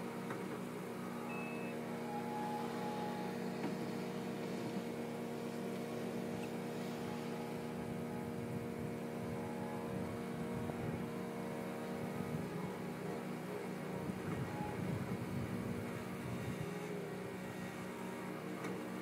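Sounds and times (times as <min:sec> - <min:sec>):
generator humming: 0:00.0 - 0:19.0
loader engine drone: 0:00.0 - 0:19.0.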